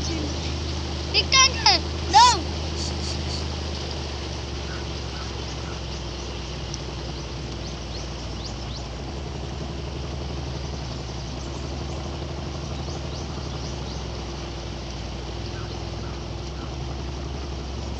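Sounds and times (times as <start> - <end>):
motorboat engine drone: 0.0 - 17.9
water and wind noise: 0.0 - 17.9.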